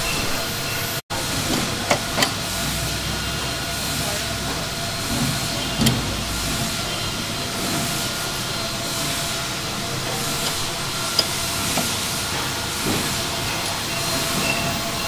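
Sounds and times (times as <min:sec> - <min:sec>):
machinery hiss: 0:00.0 - 0:15.0.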